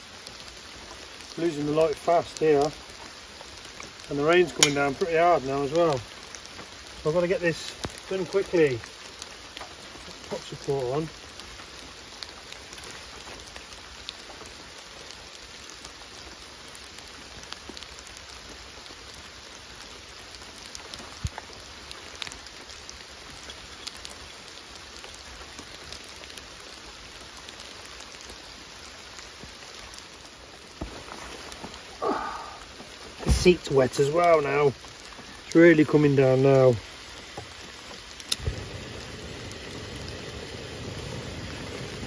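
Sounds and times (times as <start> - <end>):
heavy rain hiss: 0.0 - 42.0.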